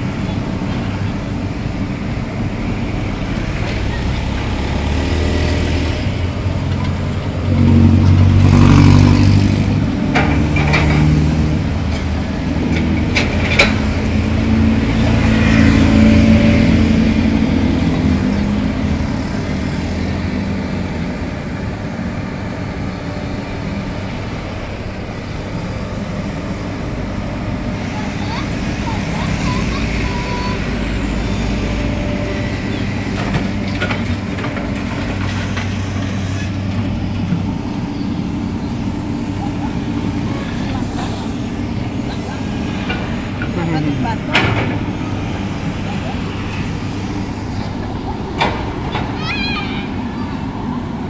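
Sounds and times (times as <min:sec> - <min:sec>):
excavator diesel engine drone: 0:00.0 - 0:51.0
passing road vehicles: 0:00.0 - 0:51.0.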